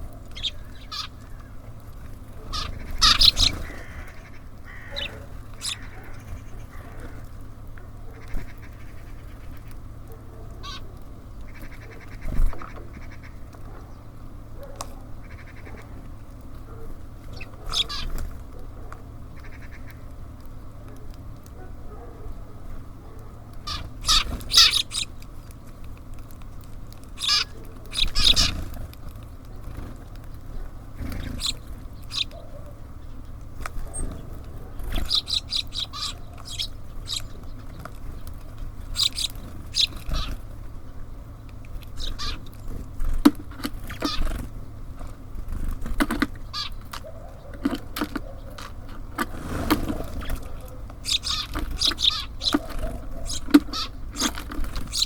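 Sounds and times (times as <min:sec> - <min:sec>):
low steady hum: 0:00.0 - 0:55.0
small birds chirping: 0:00.0 - 0:55.0.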